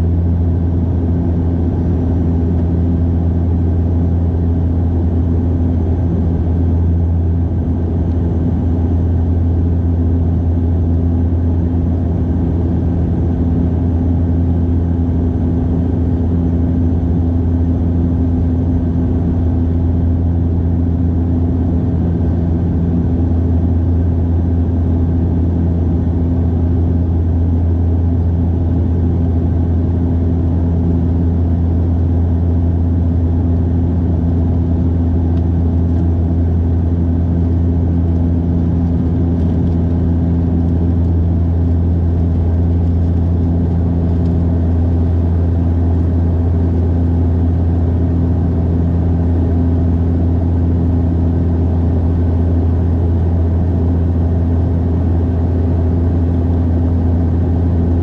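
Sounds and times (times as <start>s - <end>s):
airliner engine drone: 0.0s - 58.0s.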